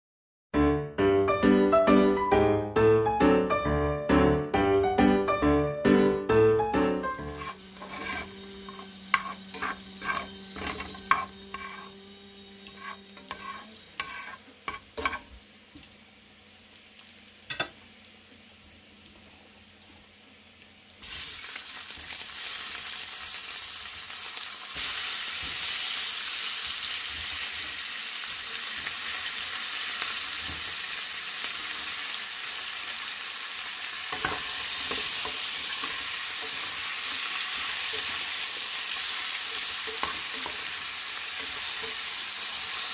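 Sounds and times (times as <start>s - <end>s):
vegetables sizzling in hot oil: 6.8s - 42.9s
garlic frying in oil: 7.0s - 42.9s.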